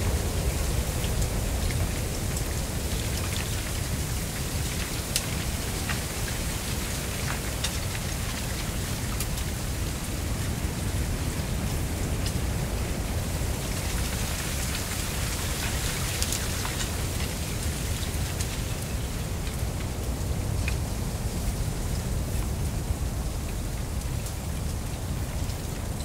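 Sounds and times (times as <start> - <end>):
light ticks of reeds: 0.0 - 26.0
low wind rumble: 0.0 - 26.0
reeds rustling in wind: 0.0 - 26.0.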